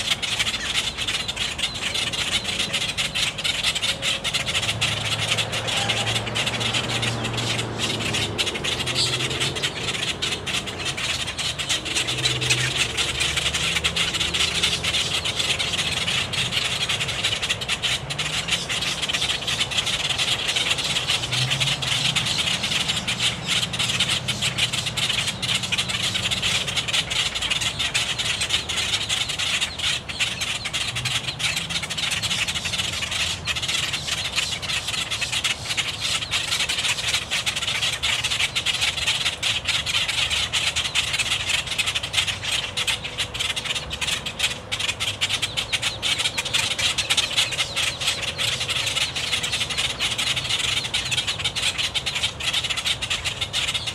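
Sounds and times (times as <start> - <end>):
grackles clucking harshly: 0.0 - 53.9.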